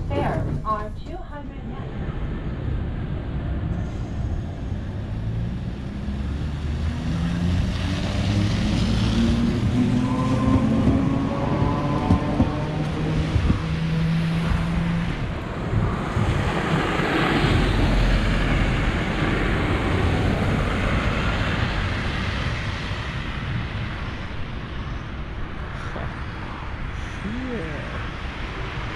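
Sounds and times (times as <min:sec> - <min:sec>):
streetcar motor hum: 0:00.0 - 0:28.9
car passing on snowy road: 0:02.8 - 0:27.1.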